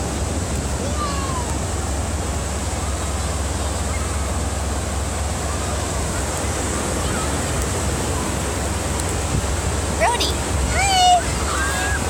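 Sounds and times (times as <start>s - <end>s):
ocean surf: 0.0s - 12.0s
wind rumble on microphone: 0.0s - 12.0s.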